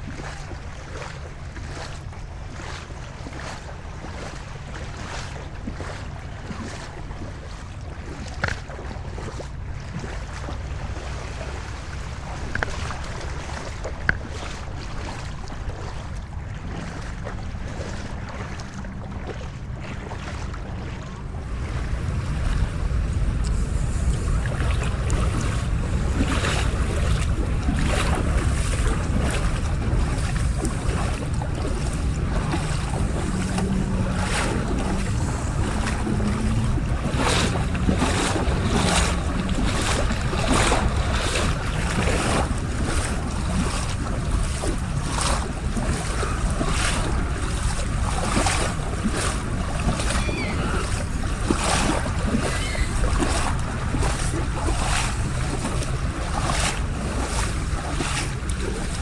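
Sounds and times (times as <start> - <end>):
bare feet splashing through water: 0.0 - 59.0
waves lapping at shoreline: 0.0 - 59.0
wind rumble on microphone: 0.0 - 59.0.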